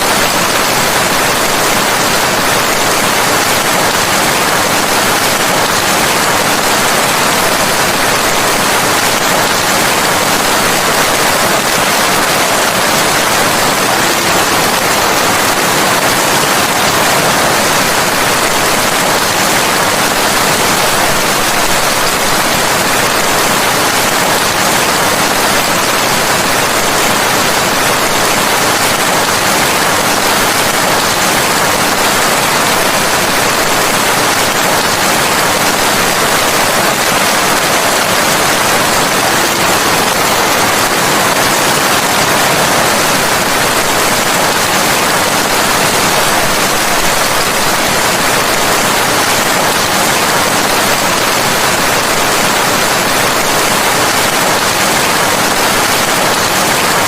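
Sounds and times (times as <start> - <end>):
dense rain hissing: 0.0 - 57.0.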